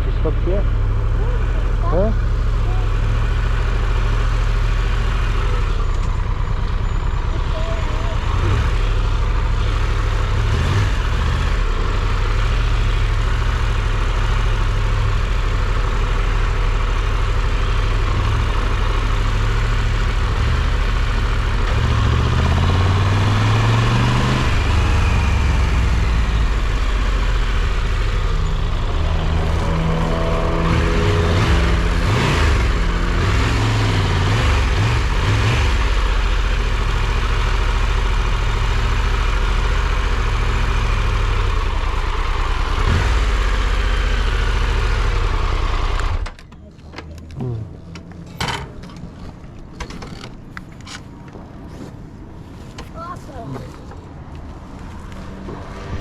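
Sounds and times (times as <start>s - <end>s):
motorcycle engine accelerating: 0.0s - 46.5s, 54.8s - 56.0s
wind and road noise: 0.0s - 56.0s.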